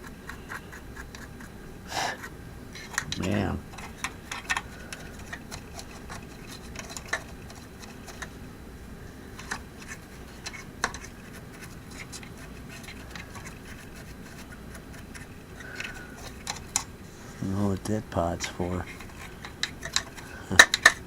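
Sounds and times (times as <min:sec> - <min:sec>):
tools clicking and scratching: 0:00.0 - 0:08.4, 0:09.3 - 0:16.9, 0:18.4 - 0:21.0
low steady hum: 0:00.0 - 0:21.0.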